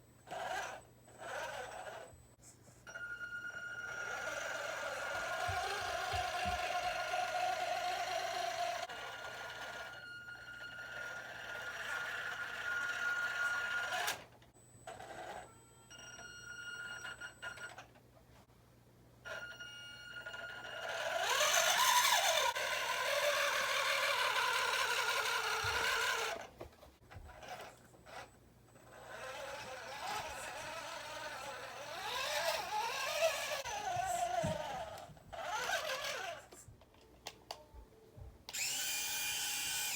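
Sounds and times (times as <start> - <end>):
whine of small electric motors: 0.2 - 2.3, 2.9 - 17.9, 19.3 - 26.5, 27.2 - 36.6, 38.5 - 39.9.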